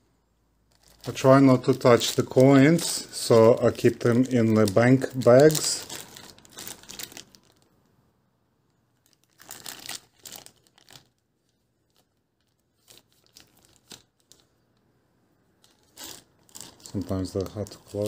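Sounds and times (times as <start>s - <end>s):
plastic coin bags crinkling: 0.7s - 7.7s, 9.0s - 14.5s, 15.6s - 18.0s.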